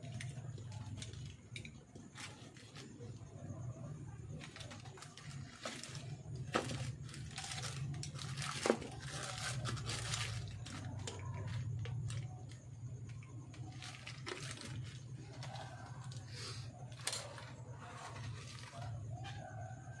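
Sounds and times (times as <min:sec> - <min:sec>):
wires rustling and crinkling: 0:00.0 - 0:20.0.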